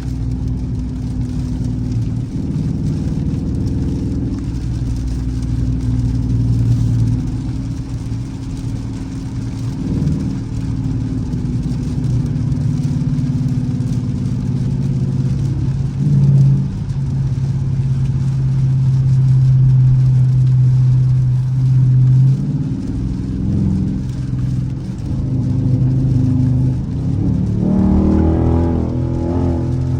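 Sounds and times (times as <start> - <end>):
car engine droning: 0.0 - 29.9.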